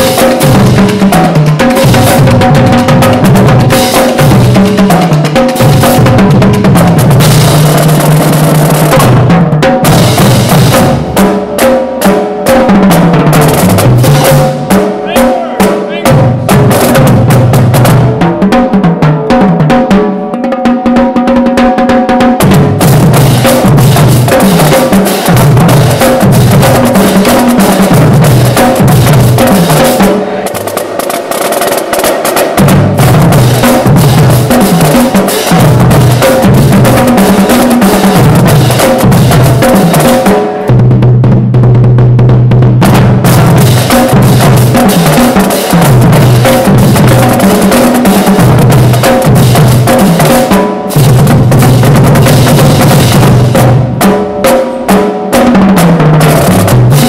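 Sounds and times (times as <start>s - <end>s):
bass drums: 0.0s - 19.9s, 22.2s - 31.3s, 32.0s - 54.8s, 55.6s - 57.0s
snare drums: 0.0s - 57.0s
tenor drums: 0.0s - 57.0s.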